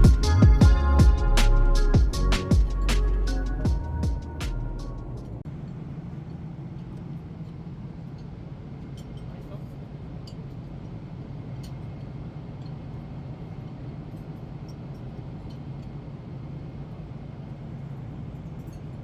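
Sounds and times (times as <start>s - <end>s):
airliner cabin drone: 0.0s - 19.0s.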